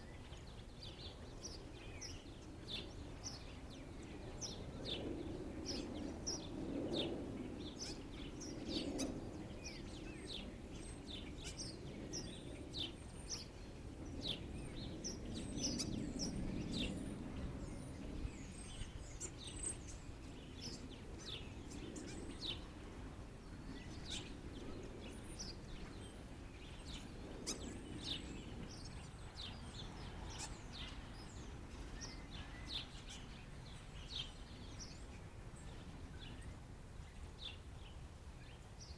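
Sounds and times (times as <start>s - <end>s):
blackbirds chirping: 0.0s - 38.9s.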